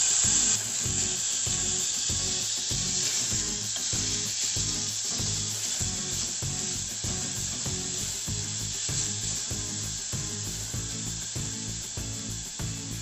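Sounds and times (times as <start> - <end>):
background music with low beat: 0.0 - 13.0
vegetables sizzling in oil: 0.0 - 13.0.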